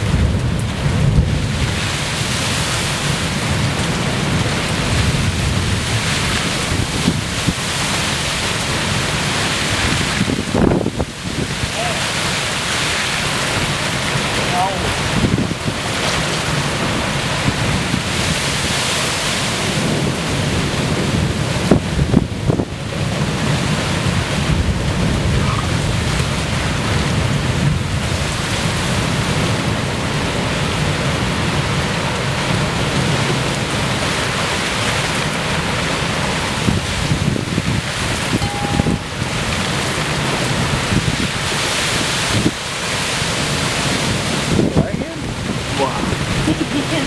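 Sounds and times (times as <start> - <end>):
heavy rain pouring: 0.0 - 47.0
wind rumbling on microphone: 0.0 - 47.0.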